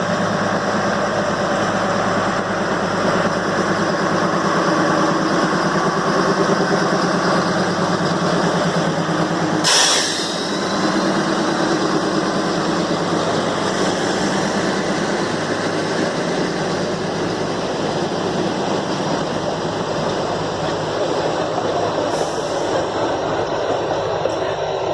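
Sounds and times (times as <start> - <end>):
diesel locomotive running: 0.0 - 24.9.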